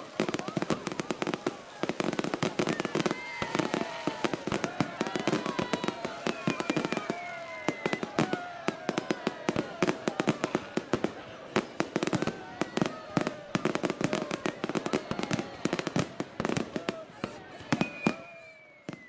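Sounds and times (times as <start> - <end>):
fireworks crackling and banging: 0.0 - 19.0
whistling fireworks: 0.0 - 19.0.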